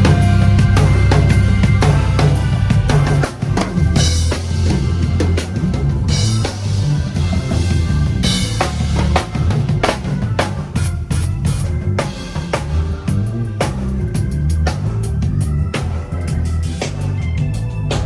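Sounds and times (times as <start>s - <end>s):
bass line: 0.0s - 18.0s
loud drum-driven music: 0.0s - 18.0s.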